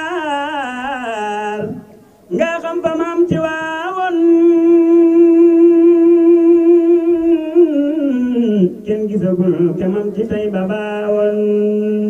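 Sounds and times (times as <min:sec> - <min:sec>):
man singing devotional chant: 0:00.0 - 0:12.0.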